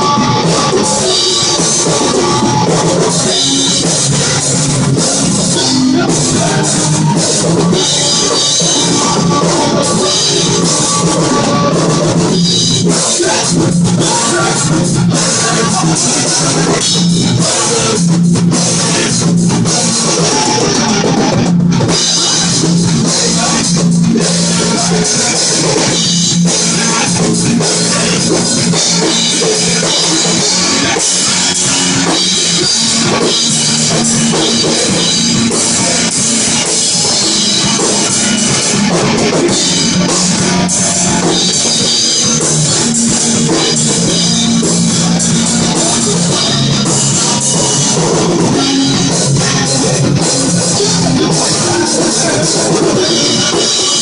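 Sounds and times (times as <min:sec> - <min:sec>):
drum kit: 0:00.0 - 0:54.0
guitar: 0:00.0 - 0:54.0
rock music: 0:00.0 - 0:54.0.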